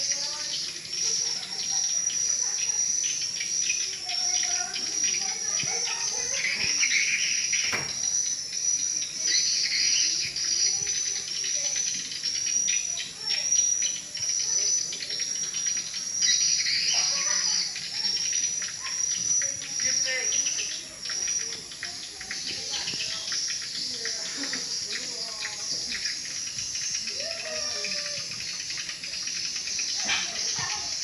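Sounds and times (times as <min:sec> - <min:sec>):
swiftlets chirping: 0:00.0 - 0:31.0.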